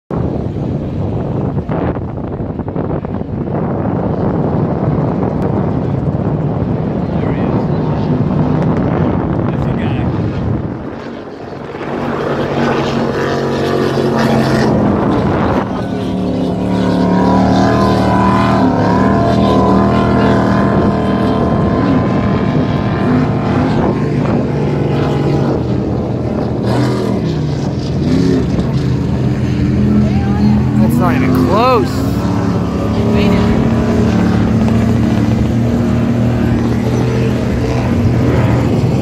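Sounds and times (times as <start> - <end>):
powerboat engines droning: 0.2 - 39.0.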